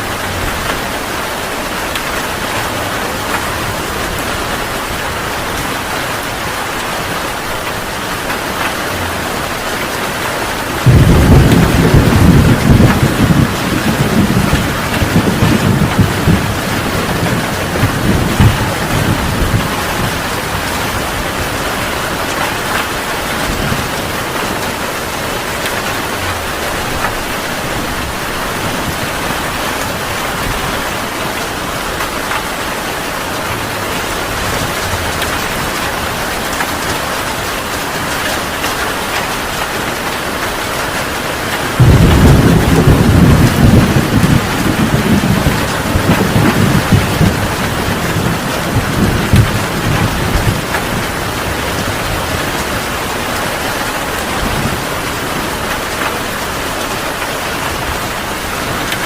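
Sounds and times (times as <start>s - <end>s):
thunder rumbling: 0.0s - 38.2s, 41.6s - 59.0s
heavy rain pouring: 0.0s - 59.0s.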